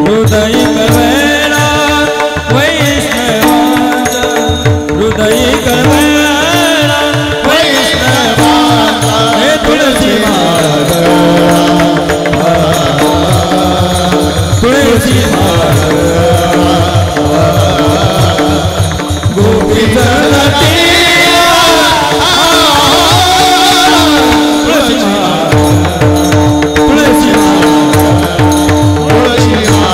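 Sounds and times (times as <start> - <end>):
hand drum rhythm: 0.0 - 29.9.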